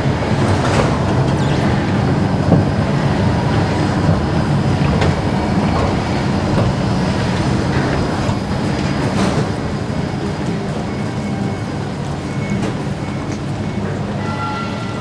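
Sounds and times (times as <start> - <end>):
low machinery rumble: 0.0 - 14.2.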